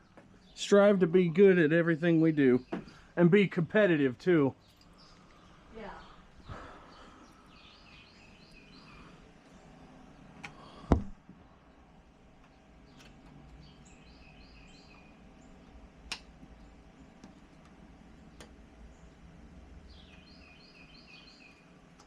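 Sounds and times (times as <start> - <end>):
bird chirping: 0.0 - 11.0, 11.6 - 15.8, 18.1 - 21.8
low background hum: 0.0 - 22.0.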